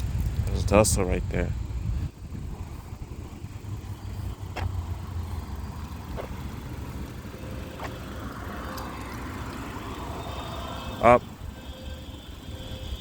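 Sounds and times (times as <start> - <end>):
car traffic rumble: 0.0 - 13.0.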